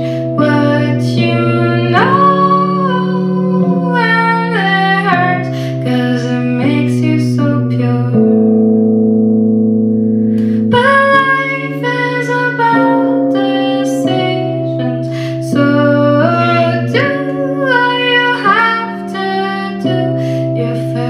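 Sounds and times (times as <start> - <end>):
woman singing: 0.0 - 8.6, 10.4 - 21.0
keyboard chords: 0.0 - 21.0.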